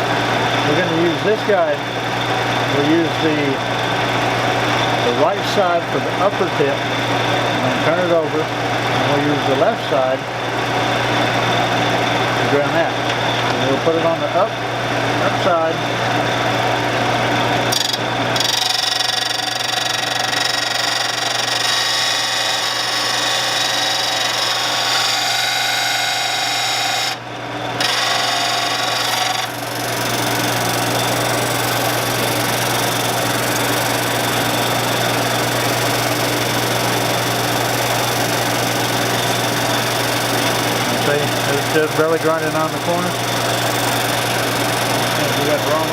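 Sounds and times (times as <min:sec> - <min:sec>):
steady motor hum: 0:00.0 - 0:45.9.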